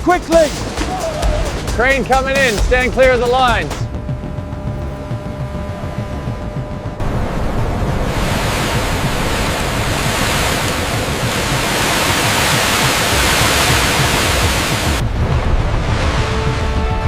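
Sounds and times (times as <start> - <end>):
water rushing with low rumble: 0.0 - 17.0.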